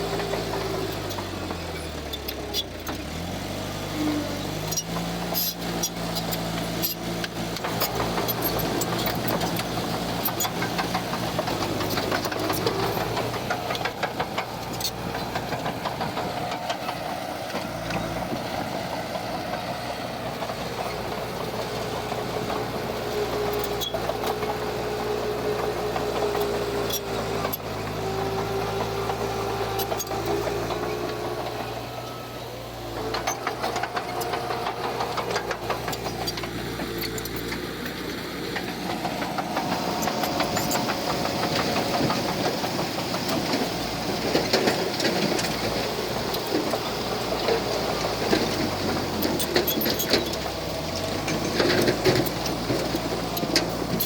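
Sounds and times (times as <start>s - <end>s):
heavy machinery diesel engine: 0.0s - 54.0s
rattling and clanking: 4.6s - 54.0s.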